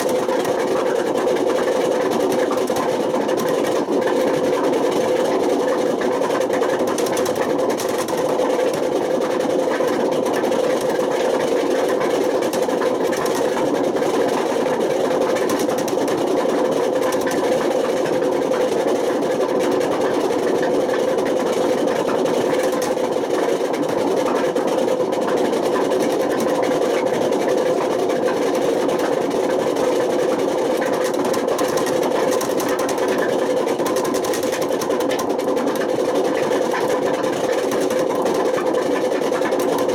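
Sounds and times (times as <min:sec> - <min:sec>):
washing machine drum rattling: 0:00.0 - 0:39.9.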